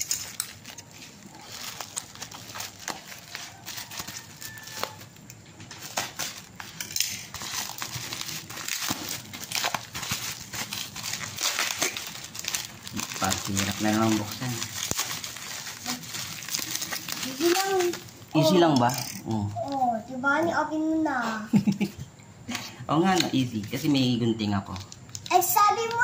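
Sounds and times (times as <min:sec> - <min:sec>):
plastic packaging crinkling: 0:00.0 - 0:20.0, 0:23.0 - 0:26.0.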